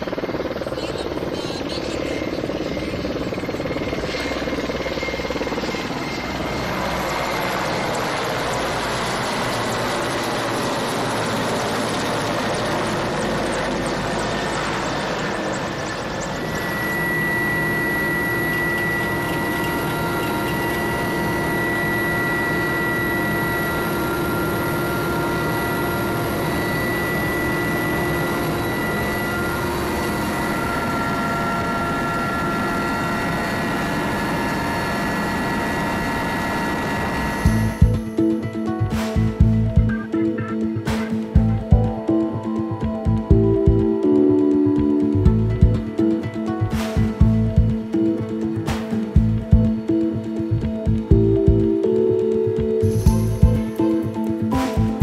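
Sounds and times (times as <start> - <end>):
helicopter cabin turbine whine: 0.0 - 55.0
helicopters flying past low: 0.0 - 55.0.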